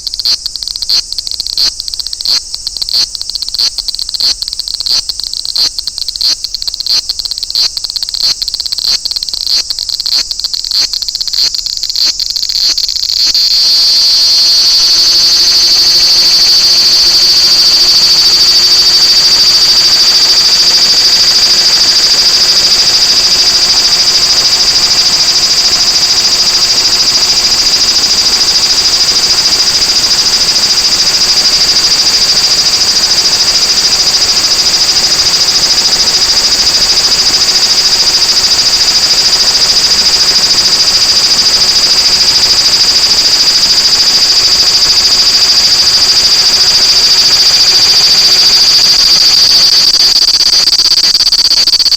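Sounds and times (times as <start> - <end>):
cicada buzzing: 0.0 - 51.9.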